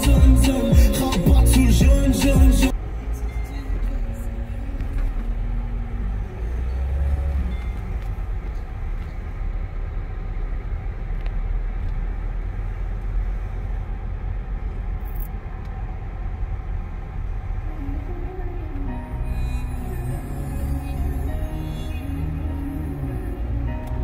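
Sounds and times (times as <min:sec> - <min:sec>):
engine and road rumble in car: 0:00.0 - 0:24.0.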